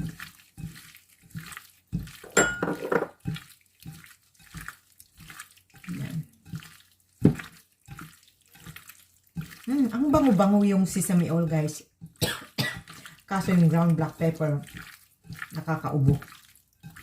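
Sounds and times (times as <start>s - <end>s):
wet squelching of mixing meat: 0.0s - 2.4s, 3.1s - 17.0s.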